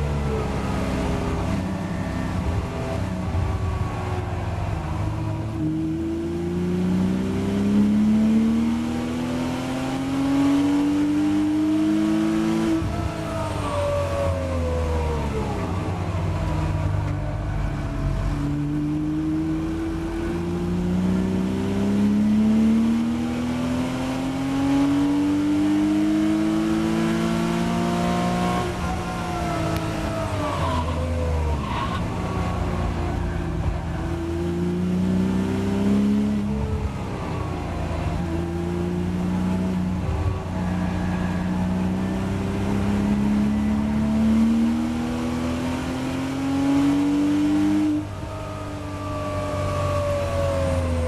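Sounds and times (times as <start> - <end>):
race car engine accelerating: 0.0 - 51.0.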